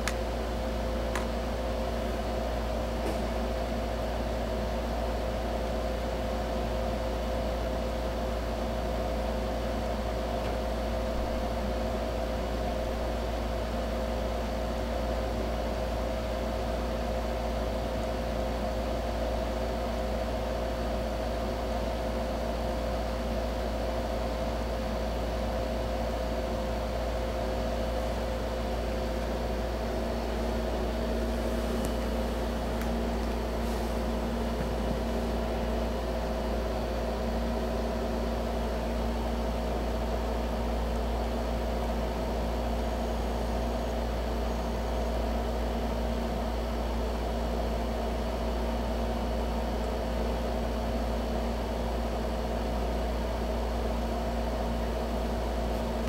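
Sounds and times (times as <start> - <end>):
mechanical hum with hiss: 0.0 - 56.0.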